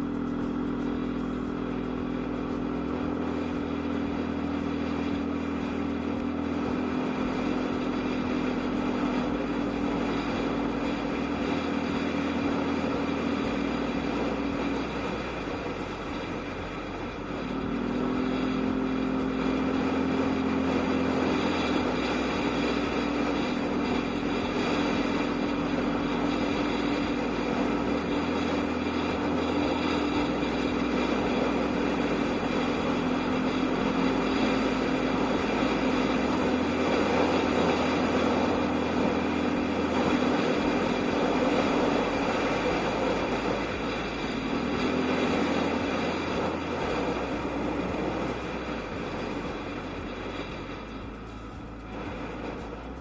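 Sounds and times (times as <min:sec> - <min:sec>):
road and wind noise: 0:00.0 - 0:53.0
scooter engine: 0:00.0 - 0:53.0.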